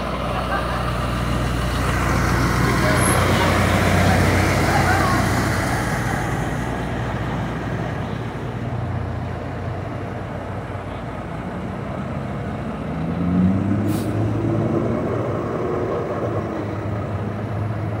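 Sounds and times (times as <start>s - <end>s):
bus engine pulling away: 0.0s - 18.0s.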